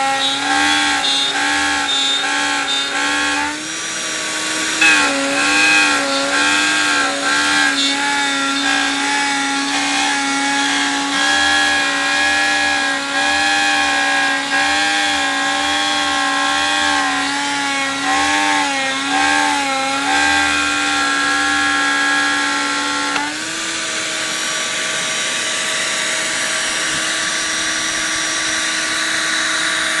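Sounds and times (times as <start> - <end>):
cnc router cutting wood: 0.0 - 30.0.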